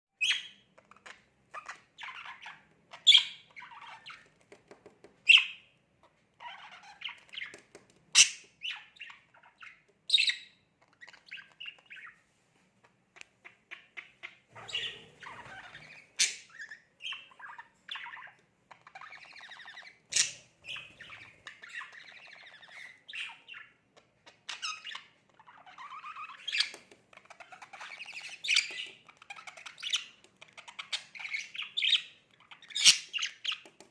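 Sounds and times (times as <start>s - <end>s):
budgerigar warbling and chirping: 0.2s - 4.3s, 5.3s - 5.8s, 6.4s - 7.6s, 8.2s - 12.2s, 13.4s - 33.7s.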